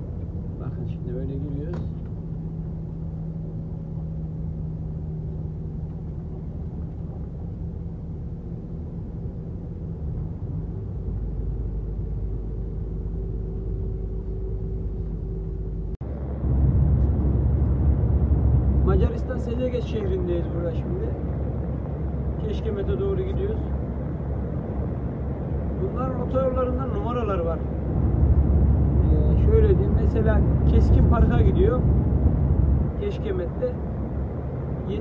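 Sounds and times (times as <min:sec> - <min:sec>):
diesel engine drone: 0:00.0 - 0:35.0
road noise: 0:00.0 - 0:35.0.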